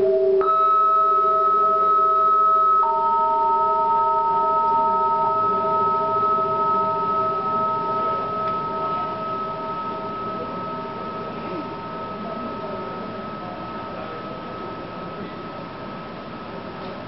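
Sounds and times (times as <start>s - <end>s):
ringing drone of pure tones: 0.0s - 17.0s.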